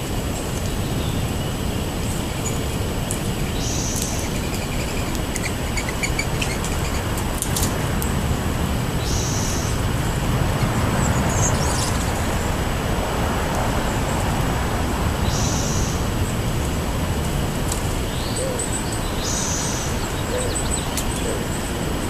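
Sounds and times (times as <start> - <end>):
road traffic rumble: 0.0 - 22.0
small birds calling: 0.5 - 12.6, 15.2 - 16.8, 17.5 - 22.0.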